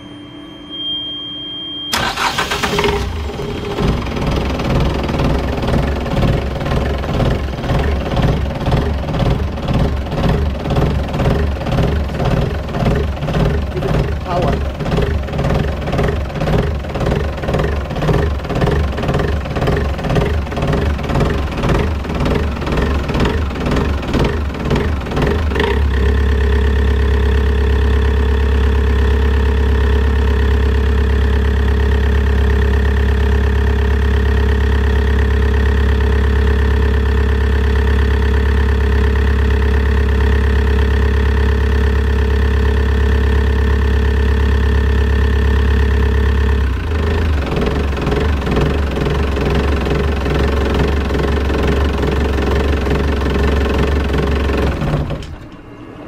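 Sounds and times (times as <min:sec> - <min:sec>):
diesel engine running: 0:01.9 - 0:56.0.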